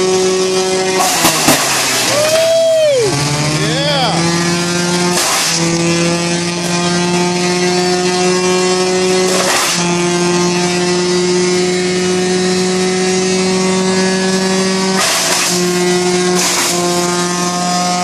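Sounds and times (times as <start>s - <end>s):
wood chipper engine running: 0.0s - 18.0s.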